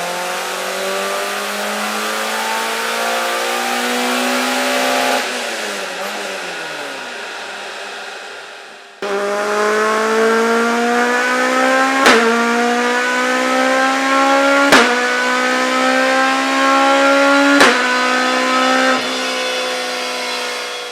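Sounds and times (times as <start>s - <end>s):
car engine at high revs: 0.0s - 20.9s.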